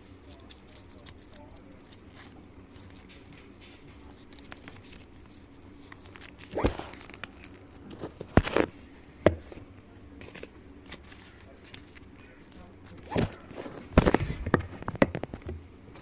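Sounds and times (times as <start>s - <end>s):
paper folding and crinkling: 0.0s - 16.0s.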